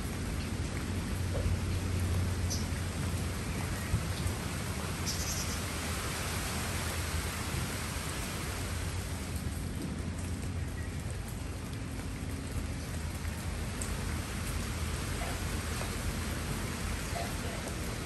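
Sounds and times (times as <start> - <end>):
rain on leaves: 0.0 - 18.0.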